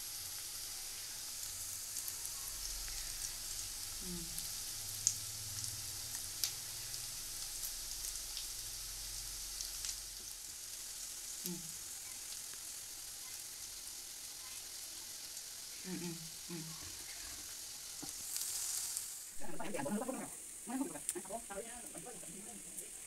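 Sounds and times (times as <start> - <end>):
high sizzling hiss with crackles: 0.0 - 23.0.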